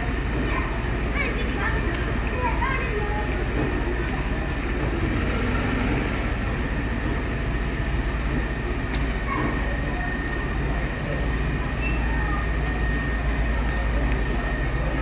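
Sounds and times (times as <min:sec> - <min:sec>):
faint voices: 0:00.0 - 0:15.0
fire engine motor rumbling: 0:00.0 - 0:15.0.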